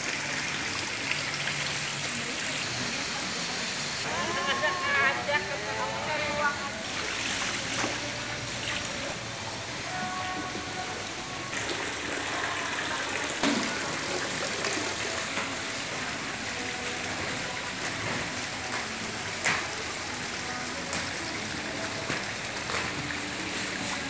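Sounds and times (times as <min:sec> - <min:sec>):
splashing running water: 0:00.0 - 0:05.1, 0:06.4 - 0:24.0
faint background music: 0:00.0 - 0:24.0.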